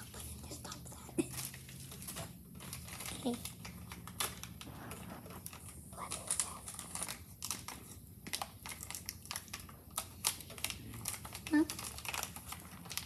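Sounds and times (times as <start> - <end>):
crinkling rustle: 0.0 - 13.0
faint low hum: 0.0 - 13.0.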